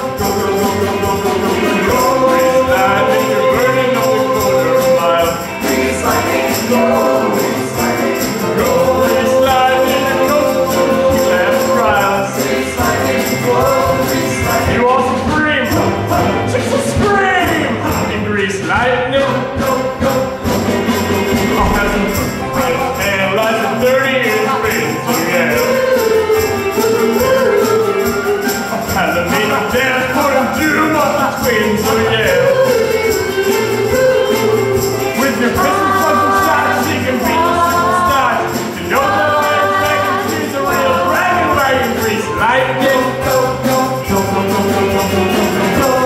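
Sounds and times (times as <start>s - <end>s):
full band playing: 0.0s - 46.0s
voices singing rock and roll: 0.0s - 46.0s.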